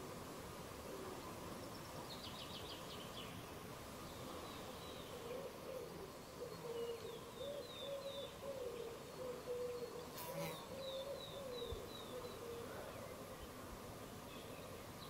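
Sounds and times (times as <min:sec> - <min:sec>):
insect hum: 0:00.0 - 0:15.0
songbird singing: 0:01.0 - 0:15.0.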